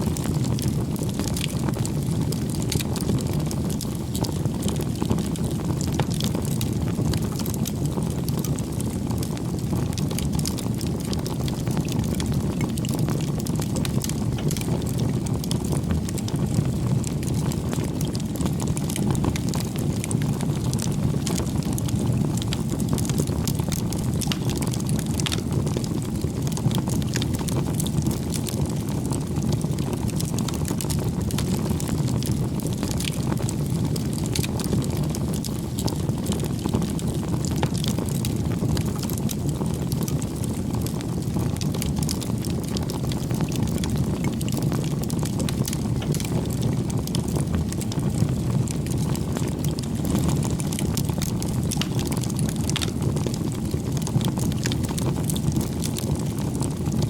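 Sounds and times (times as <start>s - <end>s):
bonfire flames rumbling: 0.0s - 57.0s
burning wood crackling: 0.1s - 57.0s.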